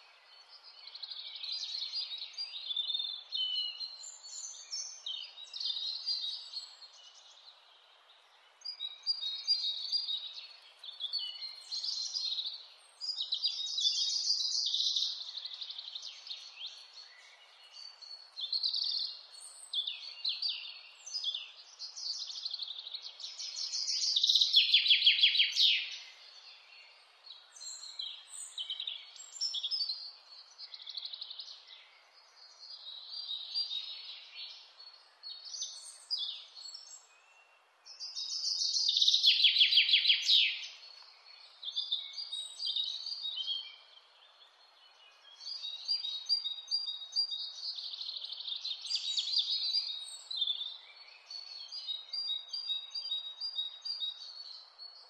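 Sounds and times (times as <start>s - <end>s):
faint steady hiss: 0.0s - 55.0s
songbirds singing: 0.0s - 55.0s.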